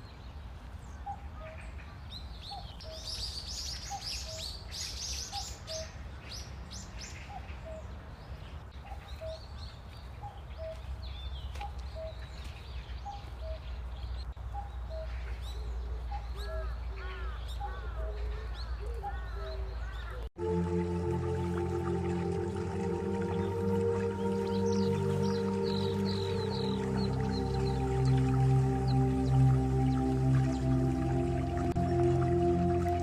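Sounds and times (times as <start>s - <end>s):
birds chirping and twittering: 0.0s - 33.0s.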